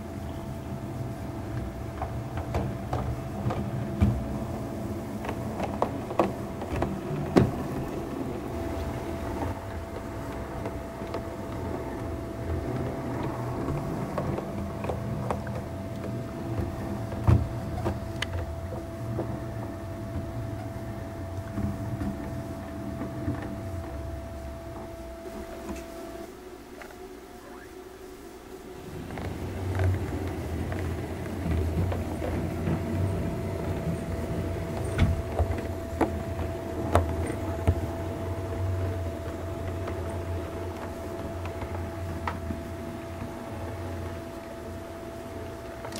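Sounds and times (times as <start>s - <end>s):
wheels clicking over rail joints: 0.0s - 26.0s, 28.7s - 45.9s
electric motor whine: 0.1s - 45.9s.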